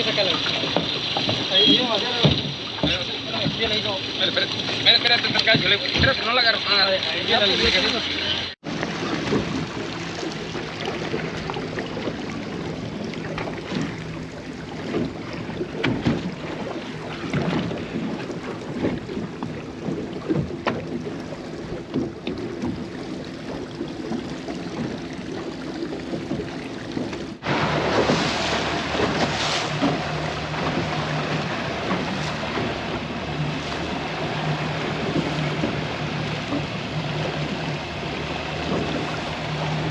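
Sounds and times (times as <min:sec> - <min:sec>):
boat engine running: 0:00.0 - 0:39.9
water noise: 0:00.0 - 0:39.9
wind: 0:00.0 - 0:39.9.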